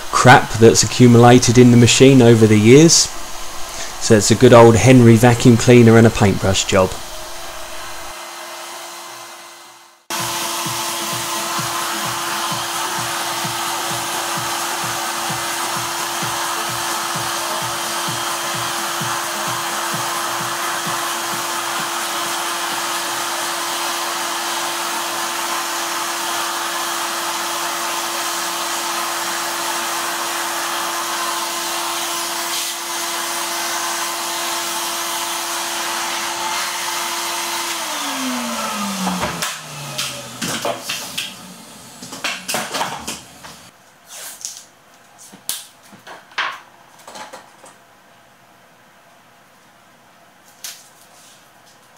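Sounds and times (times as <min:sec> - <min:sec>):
motor winding down whine: 0:00.0 - 0:31.4, 0:32.8 - 0:43.7
vacuum cleaner running: 0:00.0 - 0:43.7.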